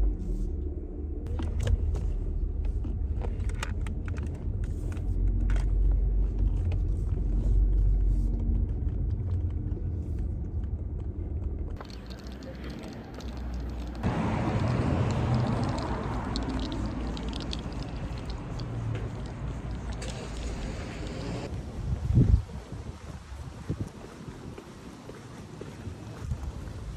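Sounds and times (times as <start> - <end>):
moving vehicle rumble: 0.0 - 26.9.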